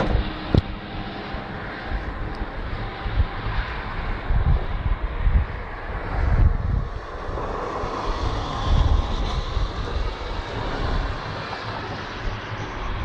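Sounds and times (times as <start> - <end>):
engine-like mechanical noise: 0.0 - 13.0.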